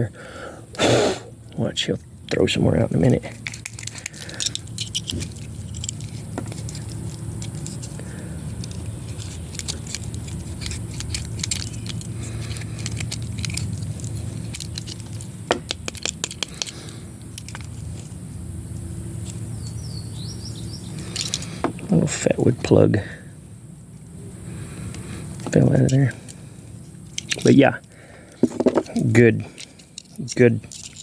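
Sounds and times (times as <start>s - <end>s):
steady low hum: 0.0s - 31.0s
light metallic clicks and jingles: 1.8s - 23.0s, 24.8s - 31.0s.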